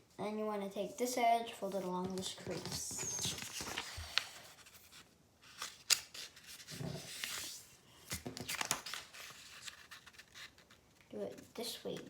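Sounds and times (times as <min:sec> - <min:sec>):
paper rustling and crackling: 0:01.8 - 0:12.0.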